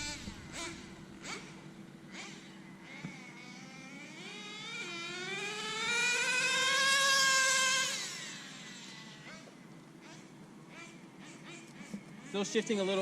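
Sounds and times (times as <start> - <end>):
small nitro engine revving: 0.0 - 12.3.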